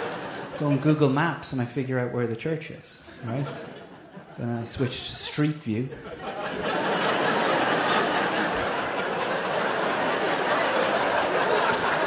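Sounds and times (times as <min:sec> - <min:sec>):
audience laughing: 0:00.0 - 0:01.0, 0:03.1 - 0:12.0.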